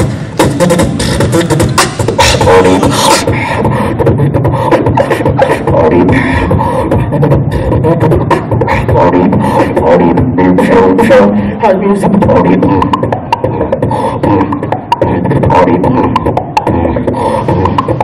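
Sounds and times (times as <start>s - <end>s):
amplified beatboxing: 0.0s - 18.0s.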